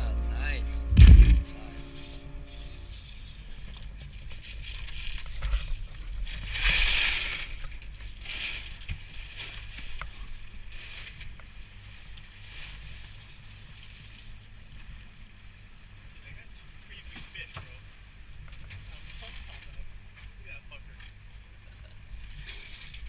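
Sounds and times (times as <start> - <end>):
boat engine rumble: 0.0 - 6.6, 7.3 - 23.0.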